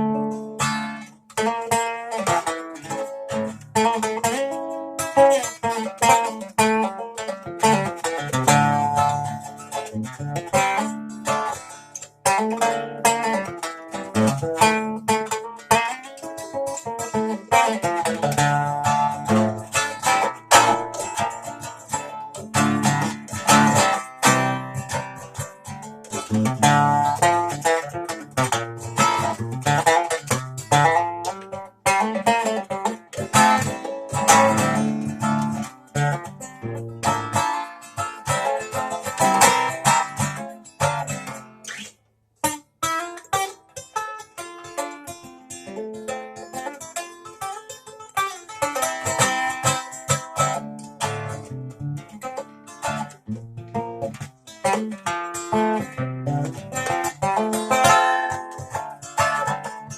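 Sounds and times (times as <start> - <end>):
strummed string instrument: 0.0 - 59.9.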